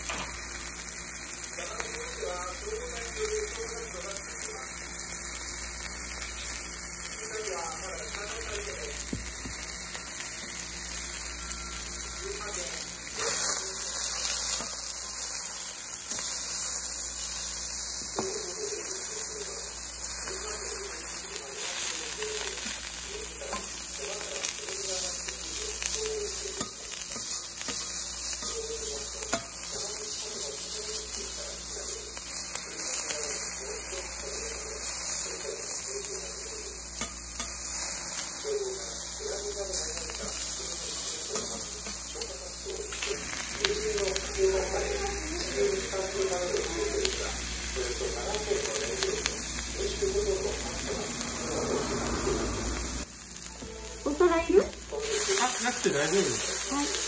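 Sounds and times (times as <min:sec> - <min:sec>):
food sizzling on a griddle: 0:00.0 - 0:57.0.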